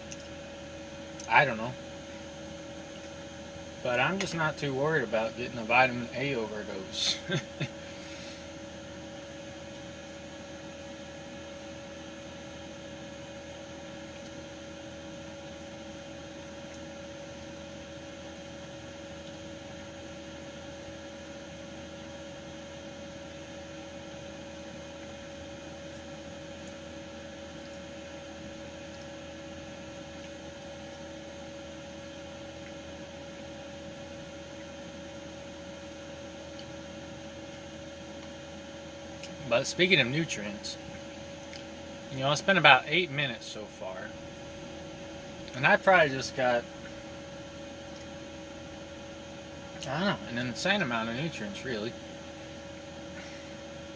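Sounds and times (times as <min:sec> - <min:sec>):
steady hum: 0:00.0 - 0:53.9.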